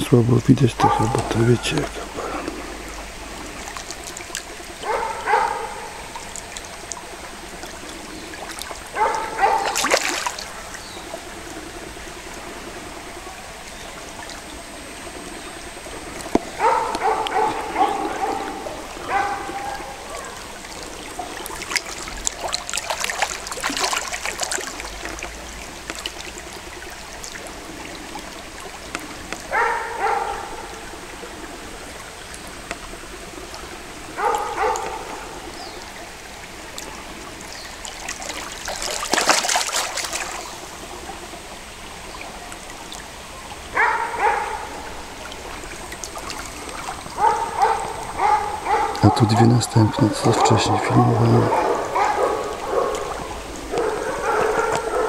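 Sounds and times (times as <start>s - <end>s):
shallow stream flowing: 0.0s - 55.0s.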